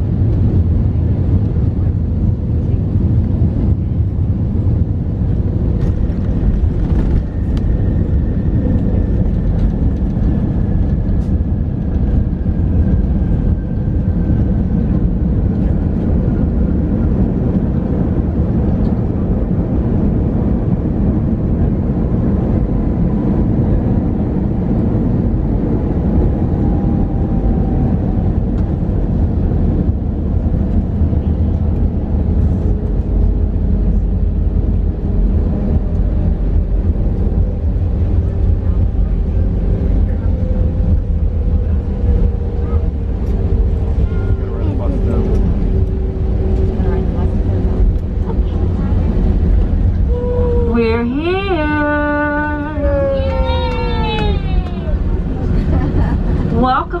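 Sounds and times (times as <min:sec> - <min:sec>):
deep rumble of engines and wheels: 0:00.0 - 0:57.0.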